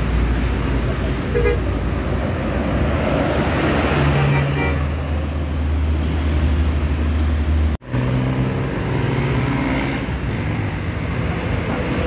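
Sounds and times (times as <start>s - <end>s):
bus engines running: 0.0s - 12.0s
road traffic noise: 0.0s - 12.0s.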